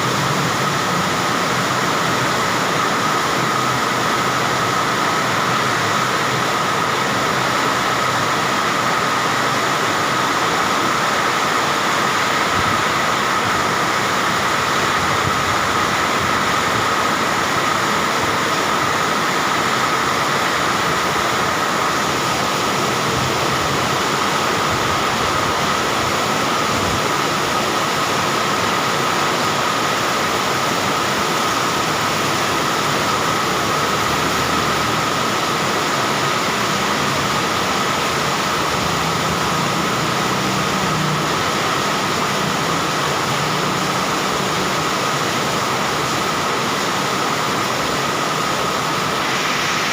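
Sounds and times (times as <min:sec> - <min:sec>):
strong wind: 0:00.0 - 0:40.1
heavy rain pouring: 0:00.0 - 0:49.9.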